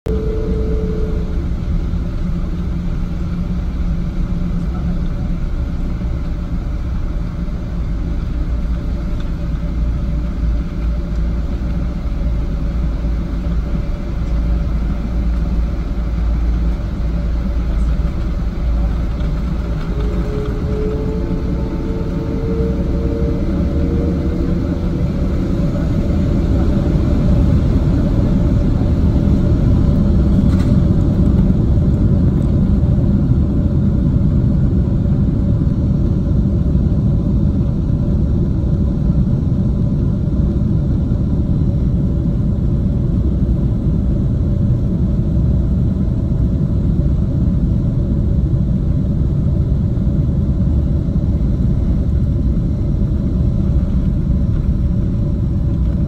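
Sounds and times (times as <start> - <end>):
jet engine drone: 0.1 - 56.0
wheels rumbling on runway: 0.1 - 56.0.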